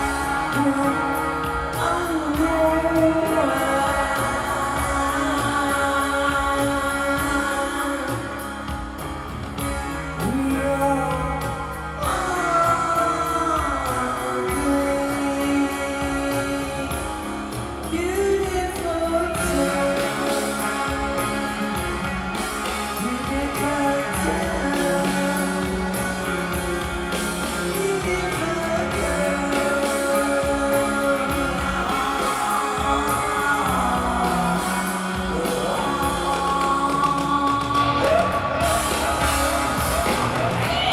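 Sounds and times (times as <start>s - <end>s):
person singing: 0.0s - 40.9s
rock band playing live: 0.0s - 40.9s.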